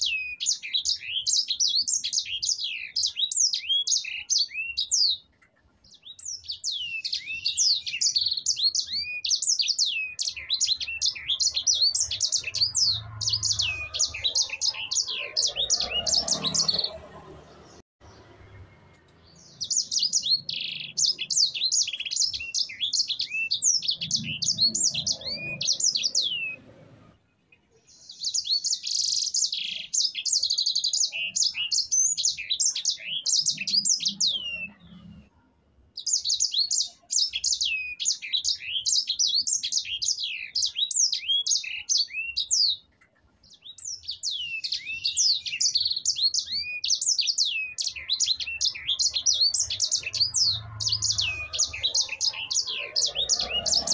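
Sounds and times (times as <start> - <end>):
canary singing: 0.0 - 27.1, 27.9 - 35.3, 36.0 - 53.9.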